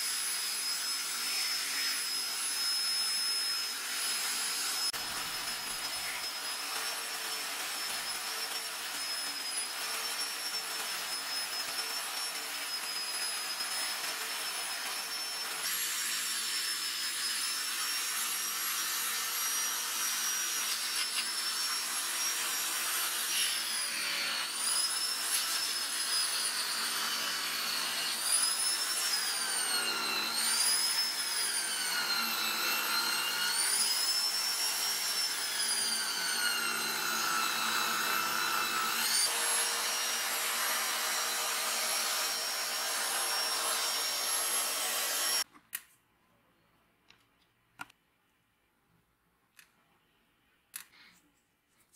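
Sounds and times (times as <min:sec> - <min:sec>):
bench grinder motor whining: 0:00.6 - 0:45.4.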